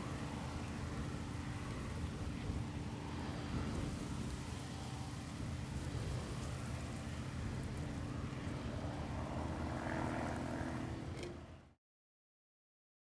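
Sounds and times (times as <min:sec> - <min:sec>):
combine harvester engine drone: 0:00.0 - 0:11.8.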